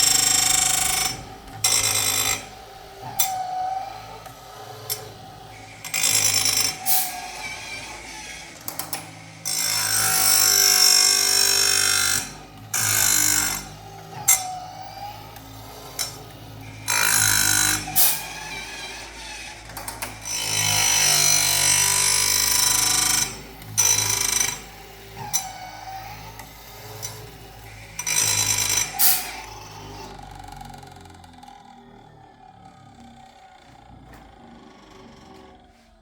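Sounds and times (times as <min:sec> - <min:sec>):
grinding wheel hissing on metal: 0:00.0 - 0:31.1
sharpening machine motor: 0:00.0 - 0:36.0.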